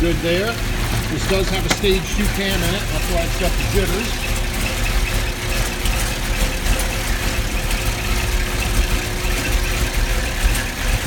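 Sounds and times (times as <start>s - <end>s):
uneven engine idling: 0.0s - 11.0s
valve train ticking: 0.0s - 11.0s.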